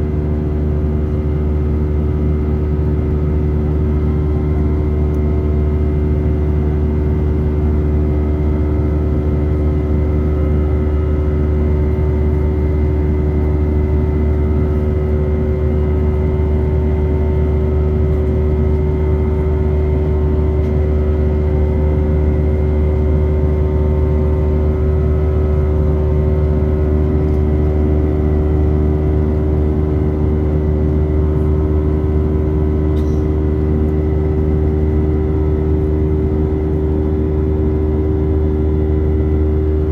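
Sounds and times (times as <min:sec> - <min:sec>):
airliner cabin jet engine drone: 0:00.0 - 0:39.9.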